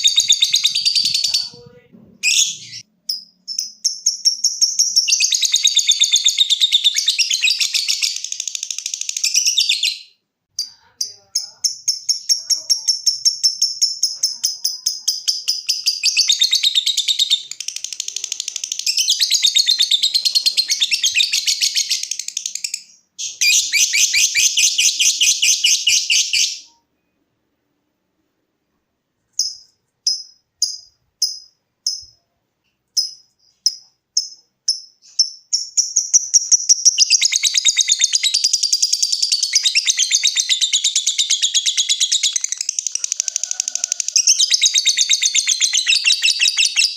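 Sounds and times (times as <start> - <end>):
sharp bird chirps: 0.0 - 1.6, 2.2 - 27.2, 29.3 - 32.3, 32.9 - 46.9
lovebird chattering trill: 0.0 - 10.0, 10.6 - 26.7, 33.0 - 46.9.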